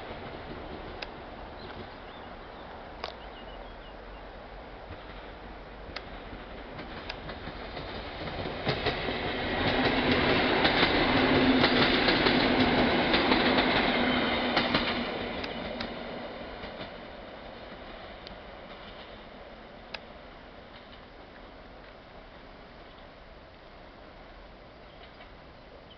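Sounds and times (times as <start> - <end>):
wheels clicking over rail joints: 0.0 - 3.2, 4.8 - 23.2, 24.9 - 25.9
electric train passing: 0.0 - 25.6.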